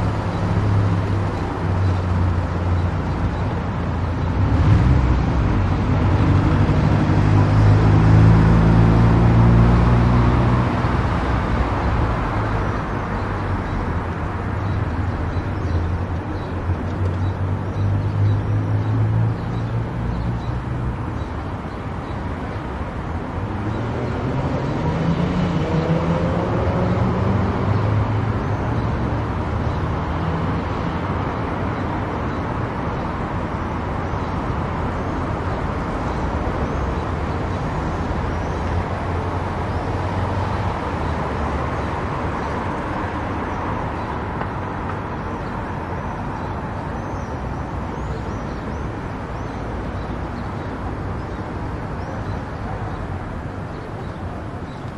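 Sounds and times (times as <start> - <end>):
tyre and road noise: 0.0 - 54.9.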